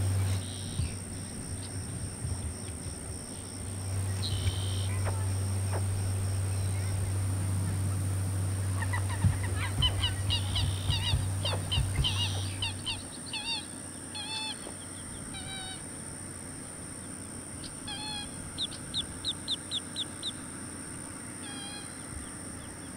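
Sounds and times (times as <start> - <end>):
alligator hatchlings chirping: 0.0 - 22.9.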